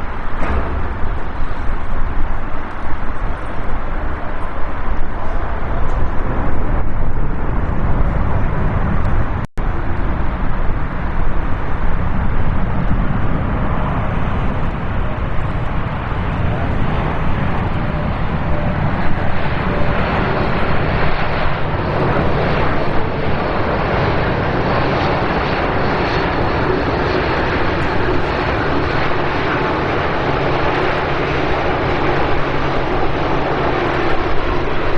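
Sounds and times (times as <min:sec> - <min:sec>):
jet engine roar: 0:00.0 - 0:34.9.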